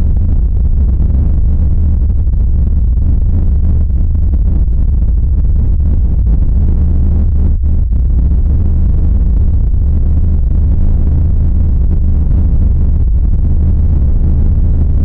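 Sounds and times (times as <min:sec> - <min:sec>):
low rumbling drone: 0:00.0 - 0:15.0.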